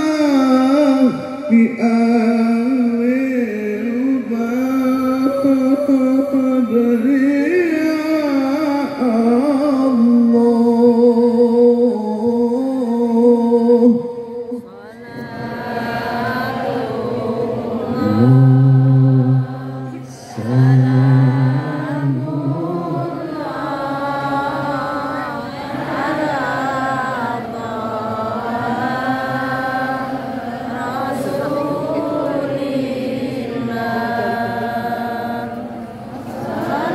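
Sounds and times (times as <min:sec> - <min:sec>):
man chanting through loudspeaker: 0:00.0 - 0:36.1.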